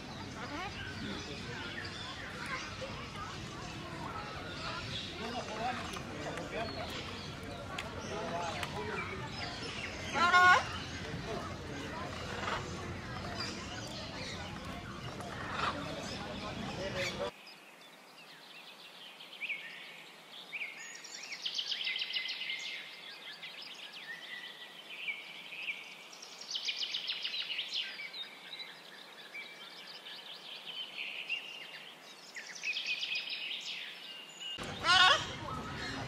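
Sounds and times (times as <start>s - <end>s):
small birds chirping and trilling: 0.0s - 36.0s.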